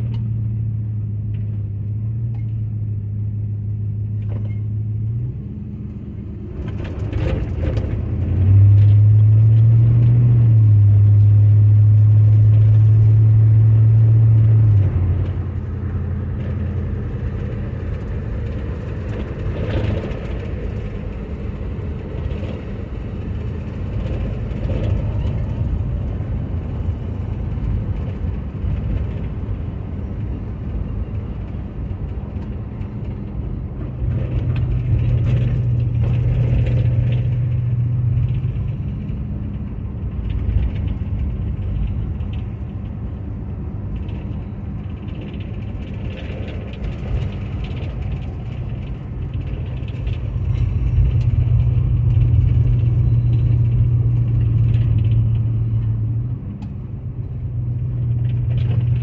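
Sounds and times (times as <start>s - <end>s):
car engine drone: 0.0s - 59.0s
road noise: 0.0s - 59.0s.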